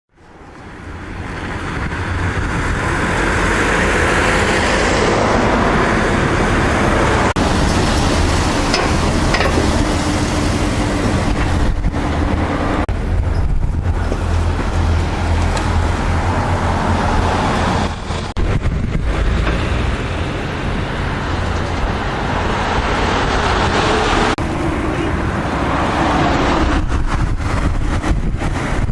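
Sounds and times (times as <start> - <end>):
rail noise: 0.1 - 28.9
passenger train passing: 0.2 - 28.8.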